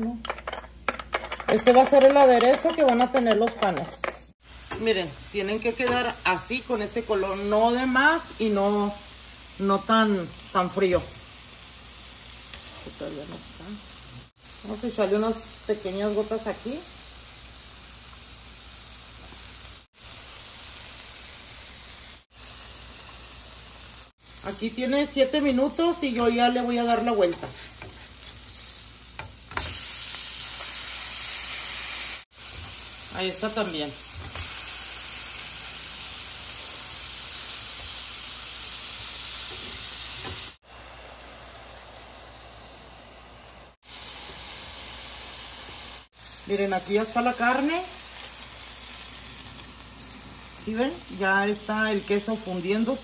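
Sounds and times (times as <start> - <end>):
meat patties sizzling on griddle: 4.3 - 53.0.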